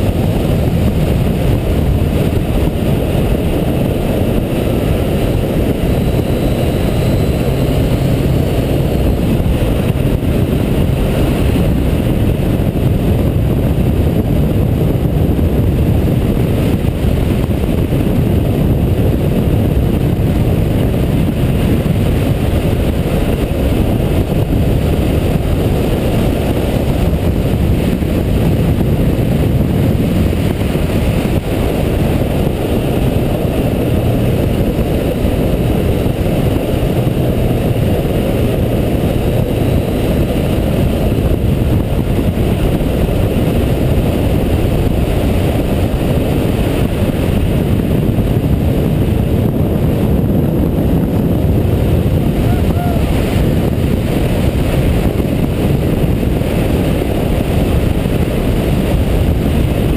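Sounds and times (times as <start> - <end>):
motorcycle engine rumbling: 0.0 - 59.9
wind rush on microphone: 0.0 - 59.9.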